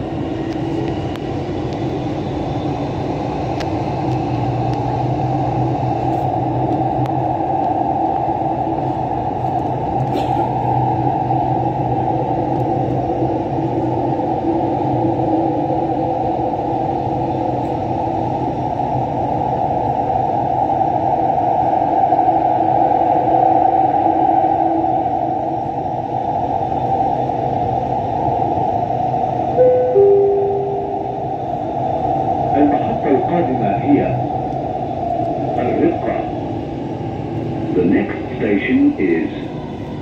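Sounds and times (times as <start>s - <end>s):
train rumbling through tunnel: 0.0s - 40.0s.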